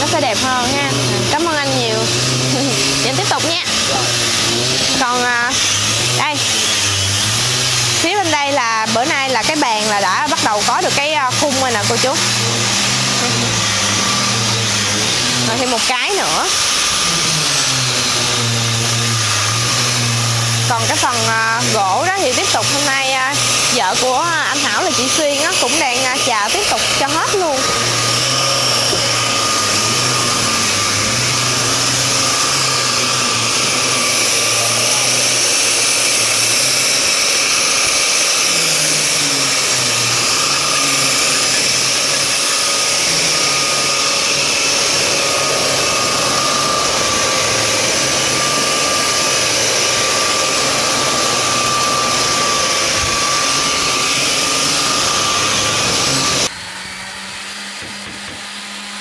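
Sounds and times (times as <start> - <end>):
electric power sander whirring: 0.0 - 59.0.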